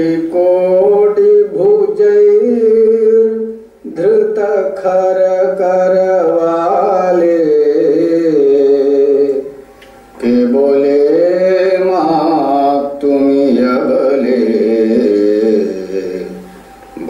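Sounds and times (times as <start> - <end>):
man singing slow melody: 0.0 - 17.0.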